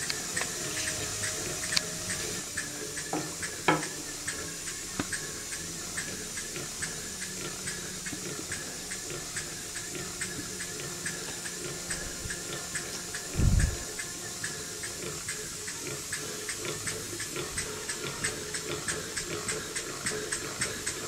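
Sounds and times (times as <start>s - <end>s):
light regular ticks: 0.0s - 21.0s
steam engine hissing: 0.0s - 21.0s
engine knock: 2.6s - 21.0s.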